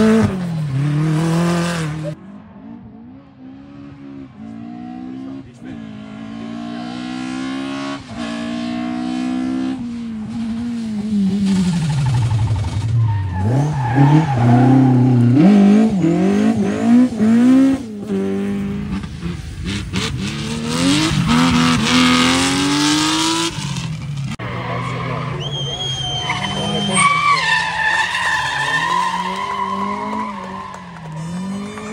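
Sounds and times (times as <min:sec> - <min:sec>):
rally car engine revving: 0:00.0 - 0:31.9.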